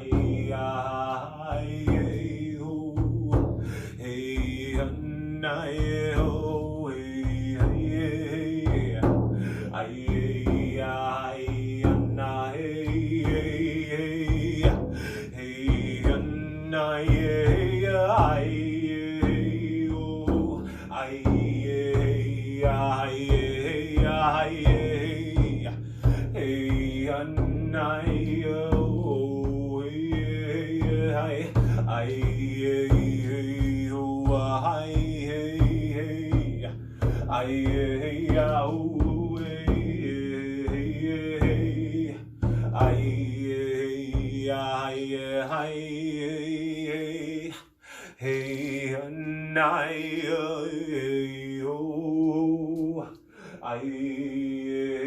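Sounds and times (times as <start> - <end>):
steady drum beat: 0.0 - 44.8
voices chanting a song: 0.0 - 55.0.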